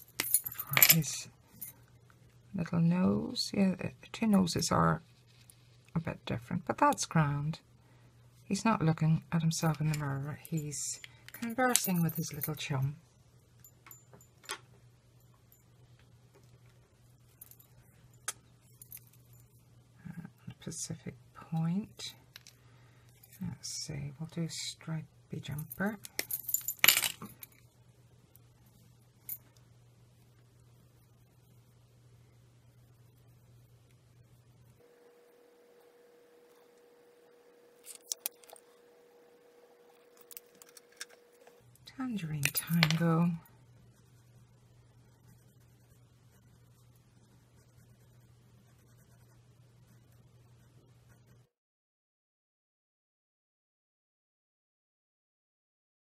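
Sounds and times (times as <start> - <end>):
low steady hum: 0.0 - 51.5.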